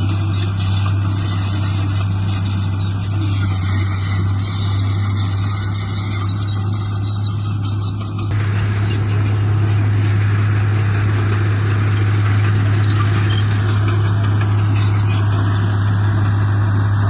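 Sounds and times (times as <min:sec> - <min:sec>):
heavy machinery diesel engine running: 0:00.0 - 0:17.0.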